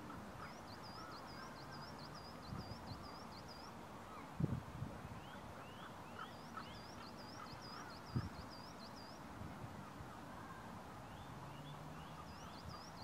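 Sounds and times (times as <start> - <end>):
birdsong: 0.0 - 13.0.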